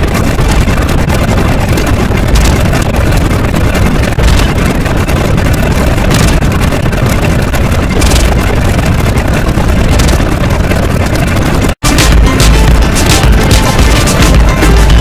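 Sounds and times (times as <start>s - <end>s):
loud distorted noise with rumble: 0.0s - 15.0s.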